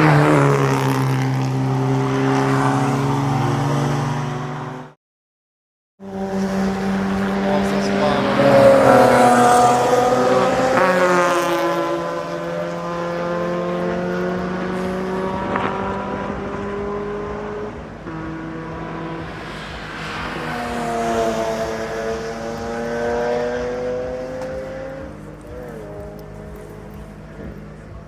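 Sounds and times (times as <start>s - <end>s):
racing car engines passing: 0.0s - 5.0s, 6.0s - 28.0s.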